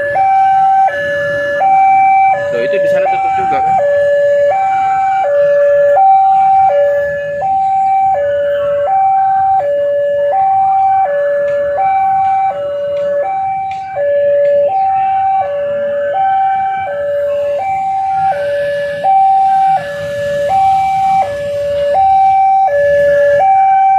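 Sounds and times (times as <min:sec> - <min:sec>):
level-crossing alarm two-tone: 0:00.0 - 0:23.9.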